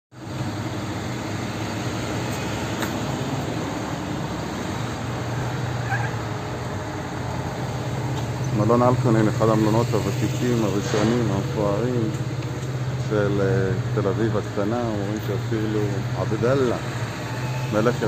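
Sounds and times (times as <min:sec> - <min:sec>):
city street noise with low hum: 0:00.1 - 0:18.0.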